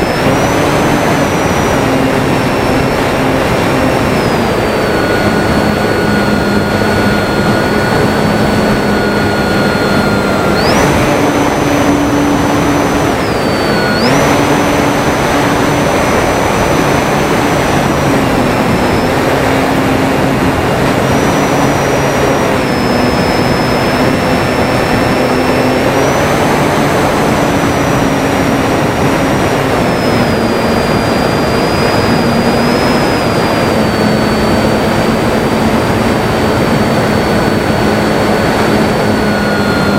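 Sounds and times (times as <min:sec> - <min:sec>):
model plane motor whining: 0:00.0 - 0:39.9
wind noise on microphone: 0:00.0 - 0:39.9.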